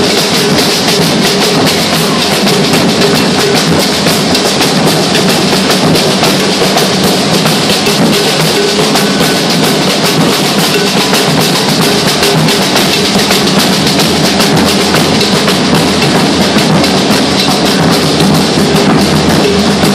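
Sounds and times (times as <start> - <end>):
drum line playing: 0.0 - 19.9.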